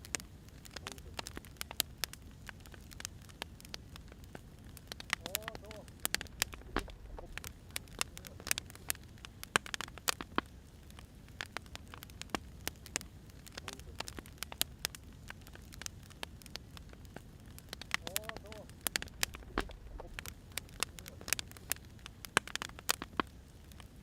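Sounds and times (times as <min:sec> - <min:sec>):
low steady rumble: 0:00.0 - 0:09.4, 0:10.4 - 0:22.4
firewood crackling and popping: 0:00.0 - 0:24.0.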